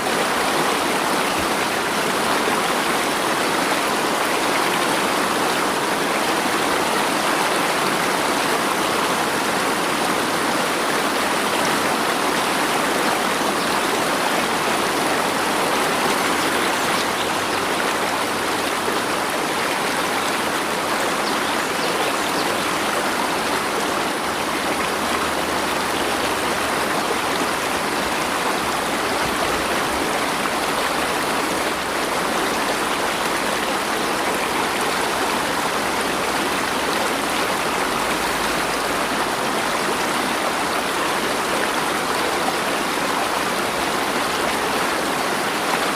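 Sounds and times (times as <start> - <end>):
water rushing steadily: 0.0 - 45.9.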